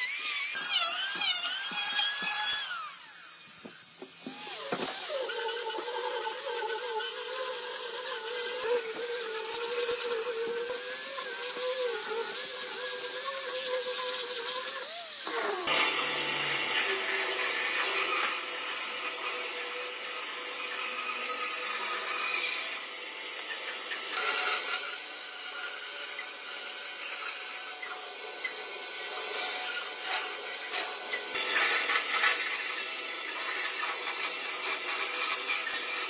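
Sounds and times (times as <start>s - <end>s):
power tool motor: 0.0s - 36.0s.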